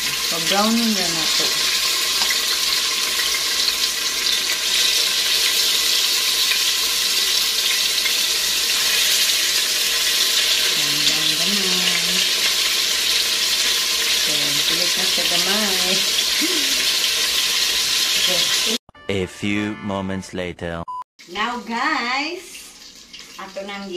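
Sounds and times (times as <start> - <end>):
chicken sizzling in hot oil: 0.0 - 18.8, 21.4 - 23.9.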